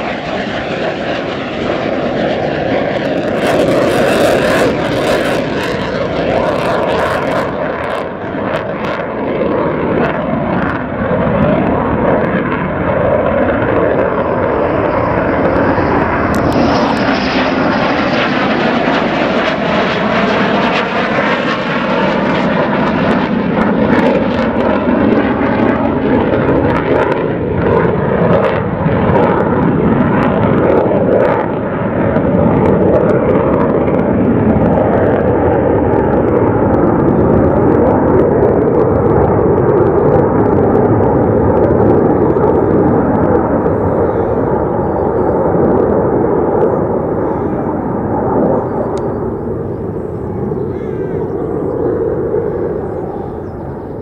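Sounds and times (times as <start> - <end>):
fighter jets roaring past: 0.0 - 54.0.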